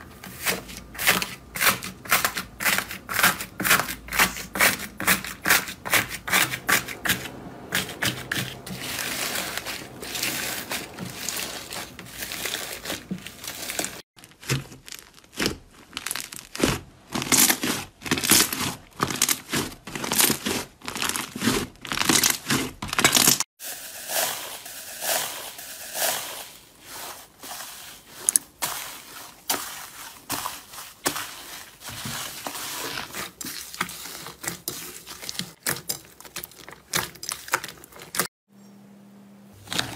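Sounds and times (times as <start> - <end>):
hands kneading crackling slime: 0.0 - 23.4, 24.1 - 38.3.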